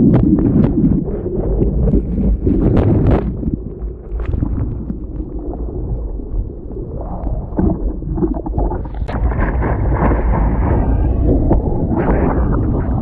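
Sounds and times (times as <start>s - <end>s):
wind buffeting microphone: 0.0s - 13.0s
surf breaking: 1.7s - 13.0s.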